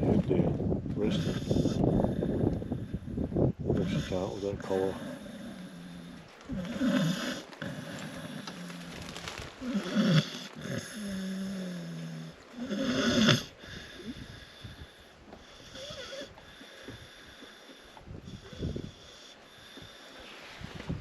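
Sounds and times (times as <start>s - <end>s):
dog snoring: 1.0s - 3.1s, 3.7s - 9.0s, 9.6s - 20.3s.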